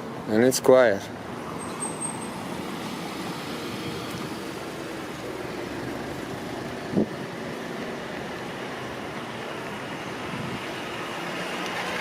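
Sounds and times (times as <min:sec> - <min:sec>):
distant traffic: 0:00.0 - 0:12.0.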